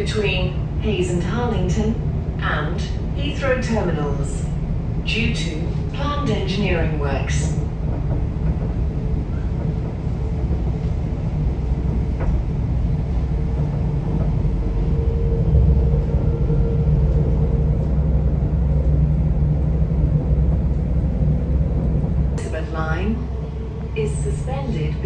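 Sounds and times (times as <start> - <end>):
train rumble from inside carriage: 0.0 - 25.0.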